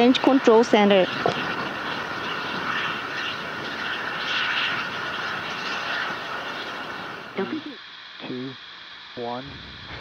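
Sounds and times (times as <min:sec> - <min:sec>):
distant rocket rushing noise: 0:00.0 - 0:07.8, 0:09.2 - 0:10.0.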